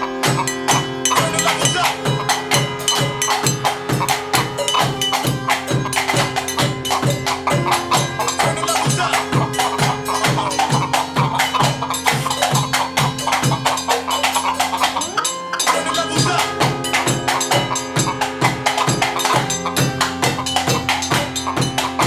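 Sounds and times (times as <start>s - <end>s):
held droning tone: 0.0s - 22.0s
sharp percussive knocks and clicks: 0.0s - 22.0s.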